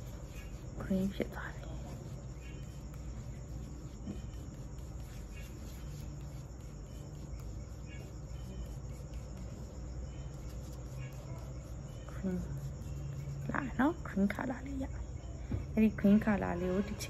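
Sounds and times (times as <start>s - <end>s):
crickets chirping: 0.0s - 17.0s
steady low hum: 0.0s - 17.0s.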